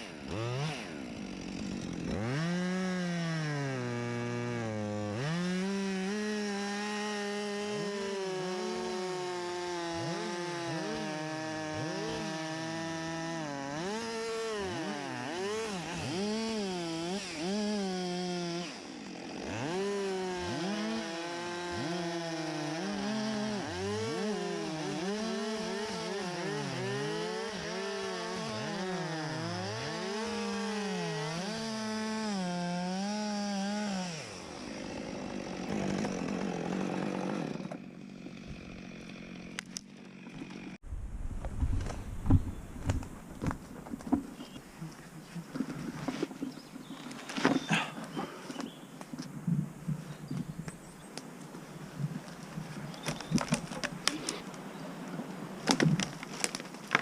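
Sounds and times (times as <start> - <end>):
chainsaw cutting wood: 0.0 - 50.8, 51.9 - 57.0.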